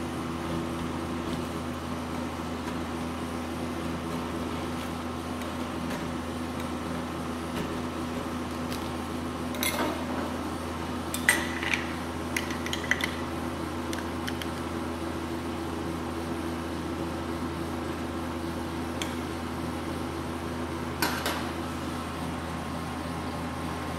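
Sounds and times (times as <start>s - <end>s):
steady machine hum: 0.0s - 23.9s.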